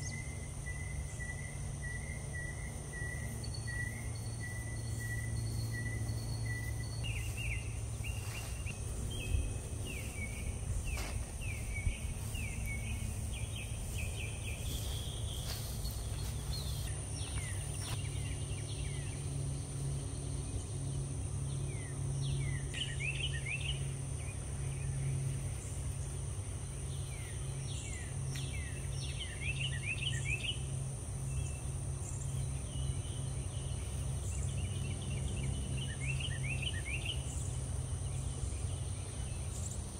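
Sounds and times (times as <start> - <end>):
bird chirping: 0.0 - 39.9
high insect drone: 0.0 - 39.9
steady low hum: 0.0 - 39.9.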